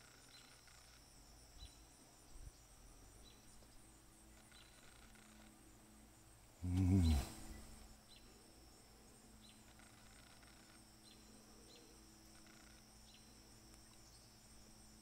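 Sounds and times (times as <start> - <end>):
high insect-like drone: 0.0 - 15.0.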